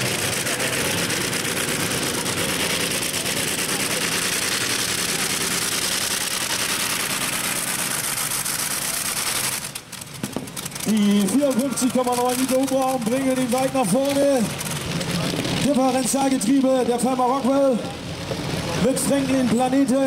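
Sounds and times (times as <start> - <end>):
loud rapid engine rattle: 0.0 - 20.0.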